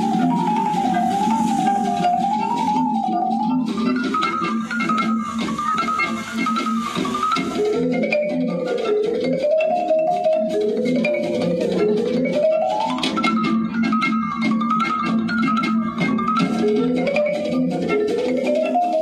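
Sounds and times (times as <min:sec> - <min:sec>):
instrumental music rippling melody: 0:00.0 - 0:19.0.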